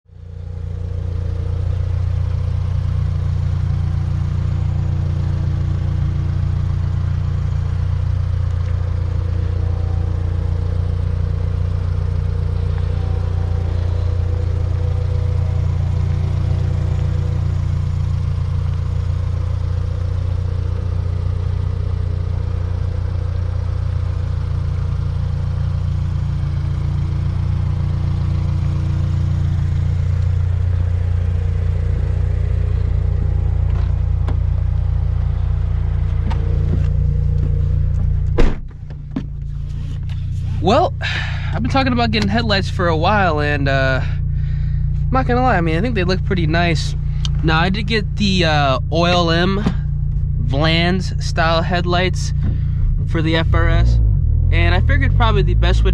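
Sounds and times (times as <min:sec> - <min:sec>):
car engine droning steadily: 0:00.0 - 0:55.9.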